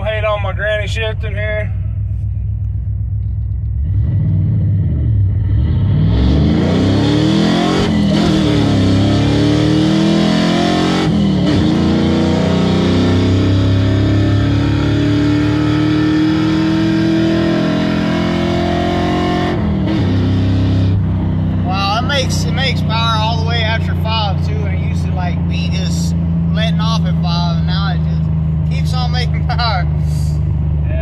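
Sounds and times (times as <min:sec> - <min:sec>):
pickup engine accelerating: 0:00.0 - 0:31.0.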